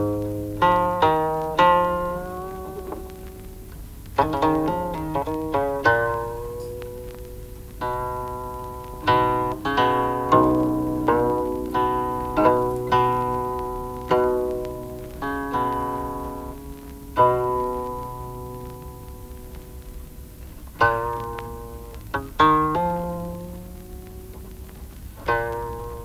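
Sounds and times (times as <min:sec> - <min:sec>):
plucked zither notes: 0:00.0 - 0:26.0.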